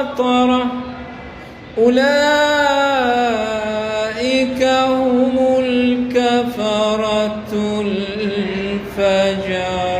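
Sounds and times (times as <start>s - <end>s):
man reciting melodically: 0.0s - 9.9s.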